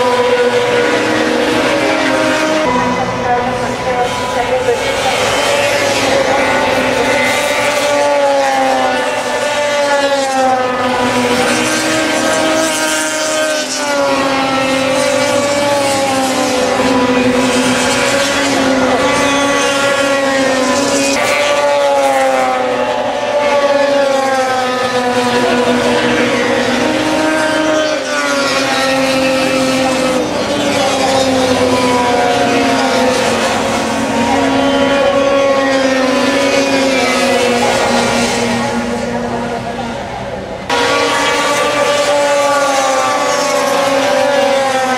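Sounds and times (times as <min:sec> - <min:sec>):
snowmobile engines passing at high revs: 0:00.0 - 0:44.9.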